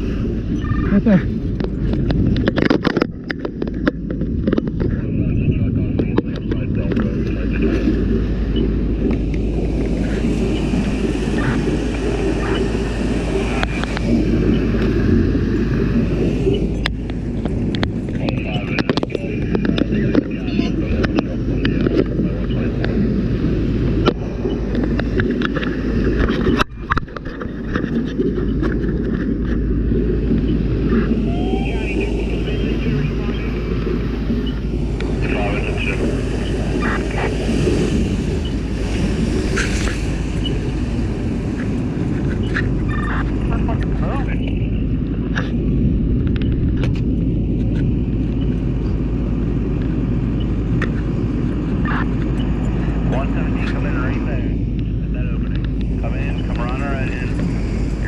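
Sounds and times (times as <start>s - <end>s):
fire engine low rumble: 0.0s - 58.0s.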